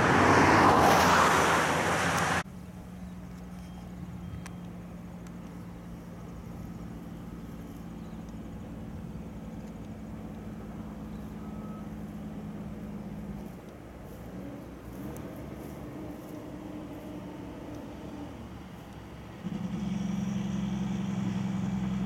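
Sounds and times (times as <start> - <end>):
truck diesel engine approaching: 0.0 - 22.0.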